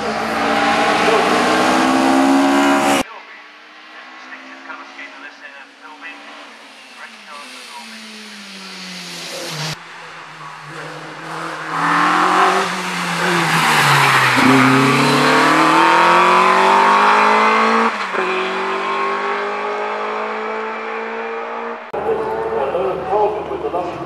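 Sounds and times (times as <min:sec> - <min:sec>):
racing car engine at full throttle: 0:00.0 - 0:24.0.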